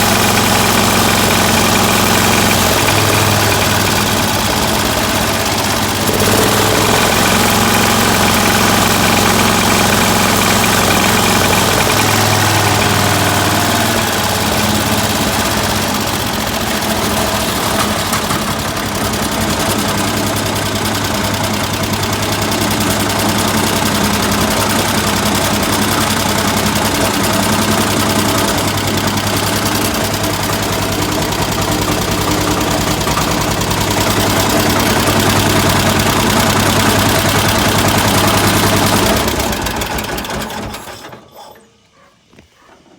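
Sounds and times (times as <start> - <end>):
single-cylinder engine running: 0.0 - 41.2.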